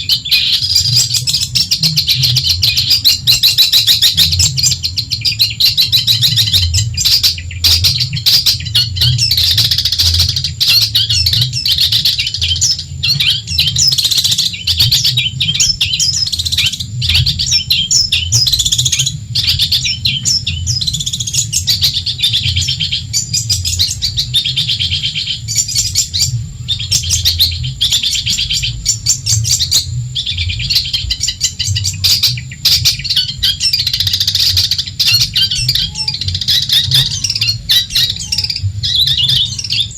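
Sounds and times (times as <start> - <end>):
bird chattering song: 0.0 - 39.9
low steady hum: 0.0 - 39.9.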